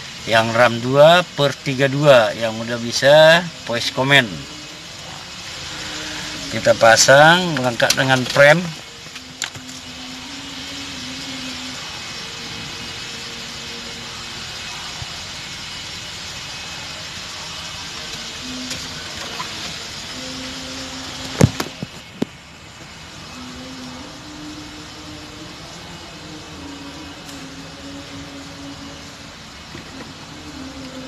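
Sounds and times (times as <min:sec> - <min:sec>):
faint hum: 0:00.0 - 0:31.0
steady background hiss: 0:00.0 - 0:31.0.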